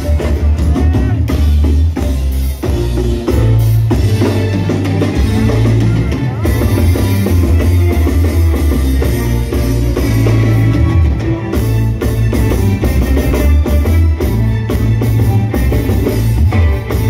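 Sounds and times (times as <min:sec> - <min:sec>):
live reggae band: 0:00.0 - 0:17.0.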